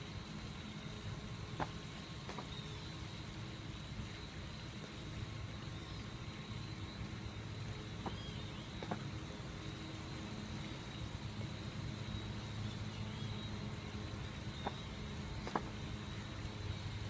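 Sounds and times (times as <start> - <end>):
low mechanical hum: 0.0 - 17.0
faint high-pitched chirping: 0.4 - 17.0.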